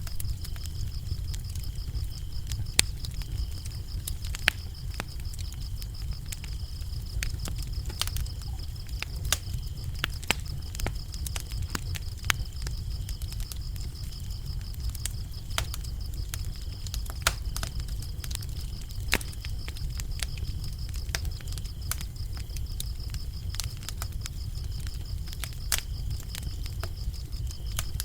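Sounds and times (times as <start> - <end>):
crickets chirping: 0.0 - 28.0
wood fire crackling: 0.0 - 28.0.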